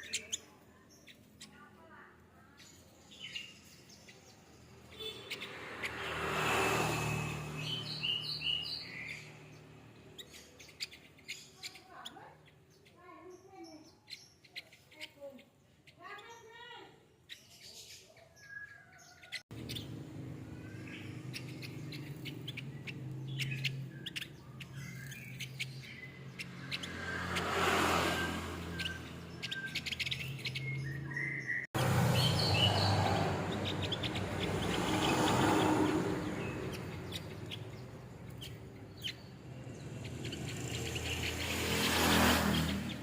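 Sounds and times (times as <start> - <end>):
bird chirping song: 0.0 - 43.0.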